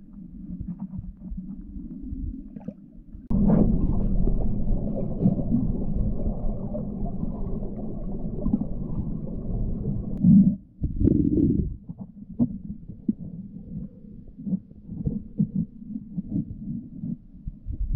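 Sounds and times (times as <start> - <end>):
river water heard underwater: 0.0 - 17.7.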